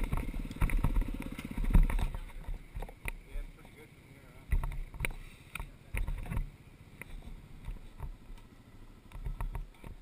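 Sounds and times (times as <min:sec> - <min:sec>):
vehicle engines idling: 0:00.0 - 0:10.0.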